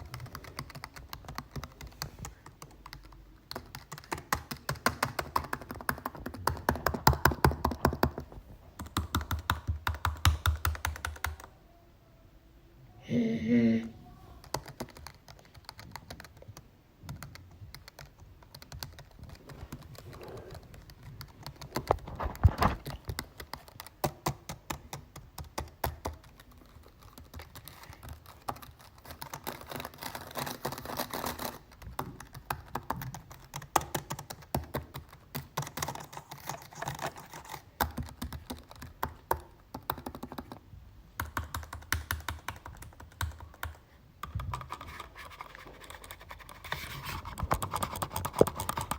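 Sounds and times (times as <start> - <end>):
typing on a computer keyboard: 0.0 - 11.5, 14.4 - 22.1, 22.8 - 40.6, 41.2 - 48.9.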